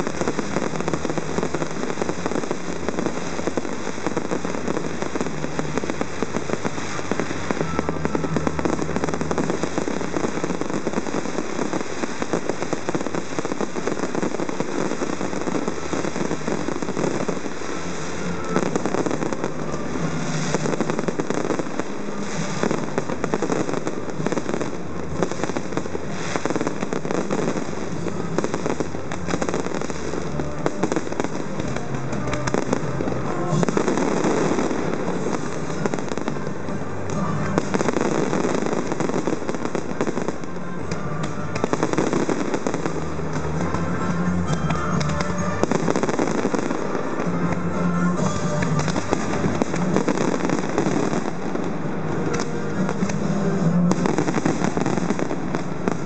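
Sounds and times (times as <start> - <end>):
fireworks crackling and banging: 0.0 - 56.0
music playing: 0.0 - 56.0.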